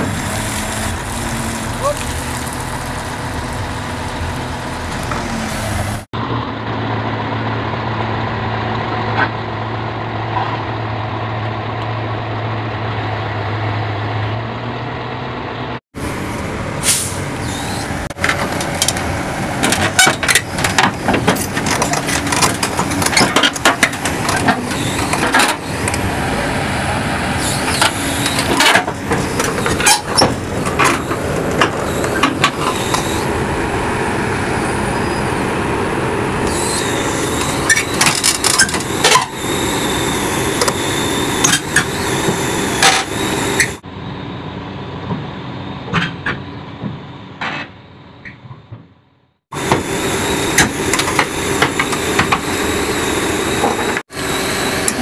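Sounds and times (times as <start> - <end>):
truck engine droning: 0.0 - 55.0.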